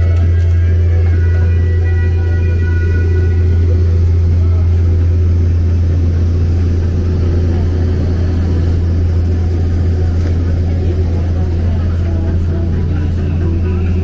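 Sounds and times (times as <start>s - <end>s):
generator running: 0.0s - 14.0s.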